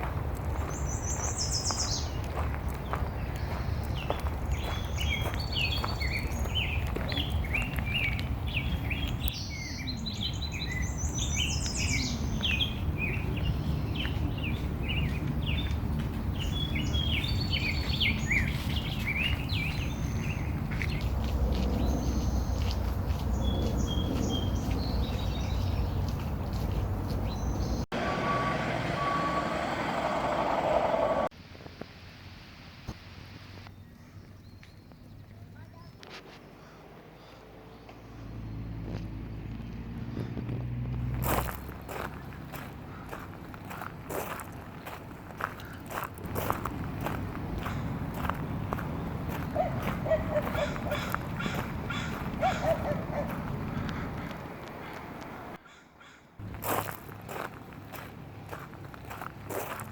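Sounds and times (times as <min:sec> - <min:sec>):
songbirds chirping: 0:00.0 - 0:31.3, 0:33.5 - 0:56.4.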